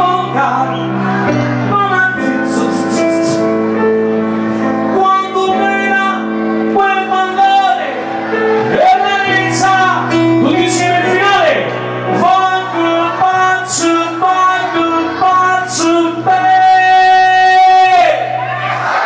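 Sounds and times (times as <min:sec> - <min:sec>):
man singing into microphone: 0:00.0 - 0:03.6, 0:04.8 - 0:18.4
backing music: 0:00.0 - 0:19.0.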